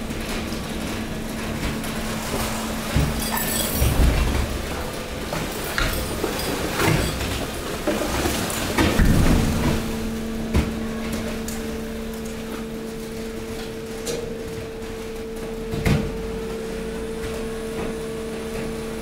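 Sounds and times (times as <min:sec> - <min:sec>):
hydraulic compactor humming: 0:00.0 - 0:19.0.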